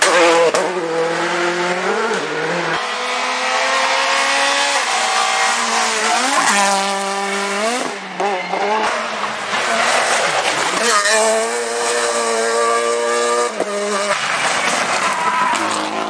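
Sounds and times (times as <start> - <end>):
rally car engines at full throttle: 0.0 - 16.0.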